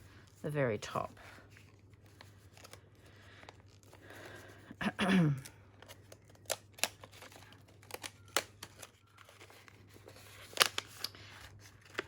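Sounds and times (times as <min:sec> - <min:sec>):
paper crinkling and rustling: 0:00.2 - 0:04.2, 0:05.8 - 0:12.0.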